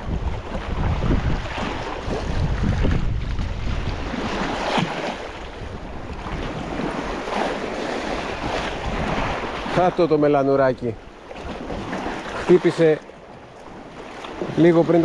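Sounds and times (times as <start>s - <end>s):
sea water washing ashore: 0.0s - 15.0s
wind buffeting microphone: 0.0s - 15.0s.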